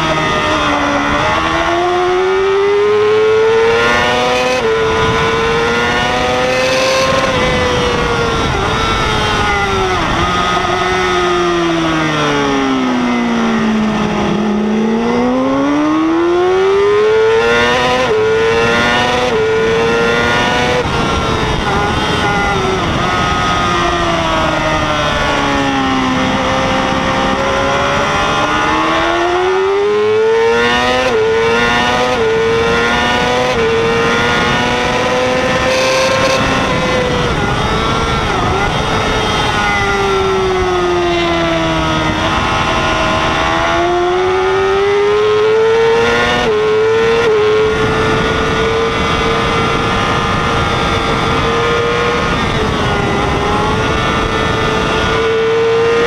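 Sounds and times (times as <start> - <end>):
motorcycle engine at racing speed: 0.0 - 56.0
wind rushing: 3.7 - 16.2, 17.5 - 56.0.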